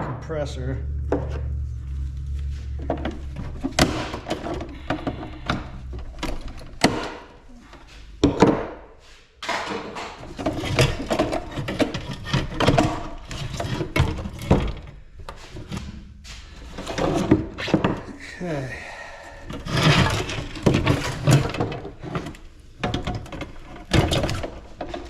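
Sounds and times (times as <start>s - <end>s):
metal and plastic parts clattering: 2.2s - 18.2s, 19.4s - 25.0s.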